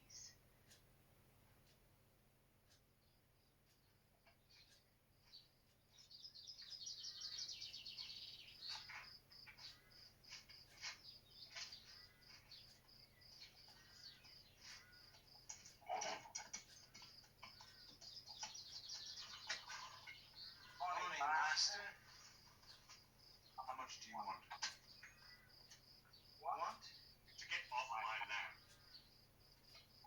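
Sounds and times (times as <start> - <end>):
birds chirping and trilling: 3.0 - 30.0
loud full bird call: 4.6 - 30.0.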